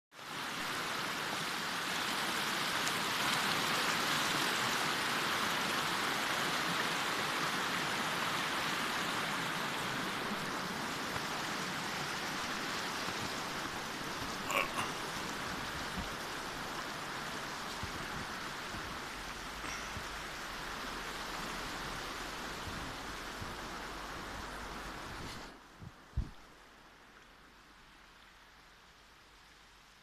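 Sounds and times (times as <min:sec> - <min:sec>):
river rushing over rocks: 0:00.2 - 0:30.0.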